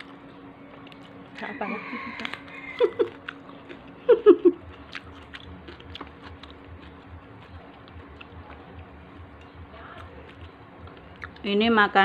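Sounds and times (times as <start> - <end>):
person chewing: 0.0 - 1.4, 2.1 - 11.4.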